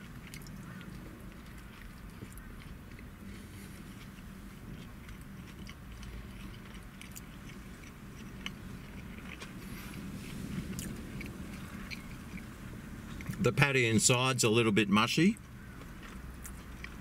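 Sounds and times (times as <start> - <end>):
person chewing with wet mouth clicks: 0.0 - 12.5, 13.1 - 13.4, 15.4 - 17.0
low steady hum: 0.0 - 17.0.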